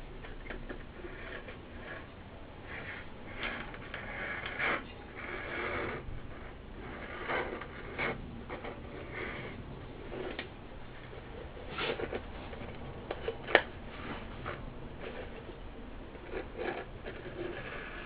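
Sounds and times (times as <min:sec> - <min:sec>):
blade scraping speaker foam: 0:00.0 - 0:18.0.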